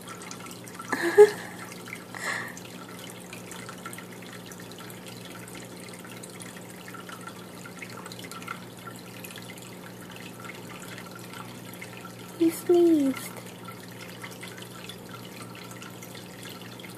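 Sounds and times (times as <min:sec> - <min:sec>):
water trickling and dripping: 0:00.0 - 0:16.9.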